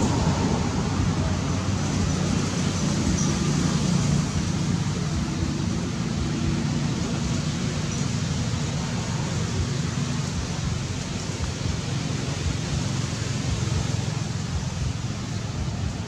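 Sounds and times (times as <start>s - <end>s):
outdoor hiss and fluttering rumble: 0.0s - 16.0s.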